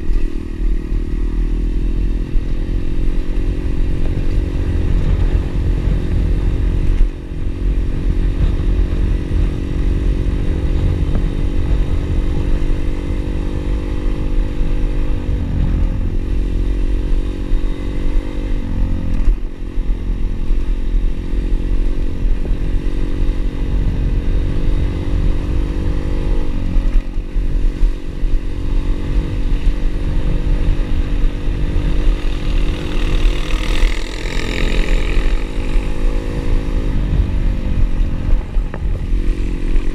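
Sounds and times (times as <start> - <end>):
constant low rumble: 0.0 - 39.9
motorbike engine running: 0.0 - 39.9.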